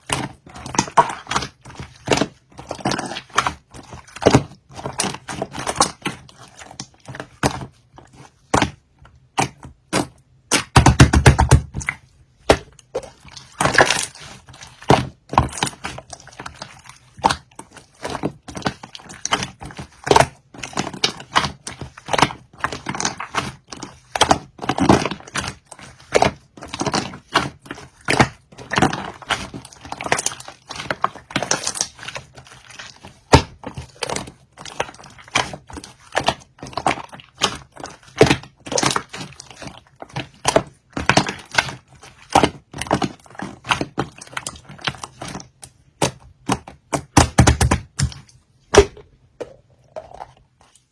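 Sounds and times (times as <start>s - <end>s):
slime squelching and popping: 0.0s - 50.9s.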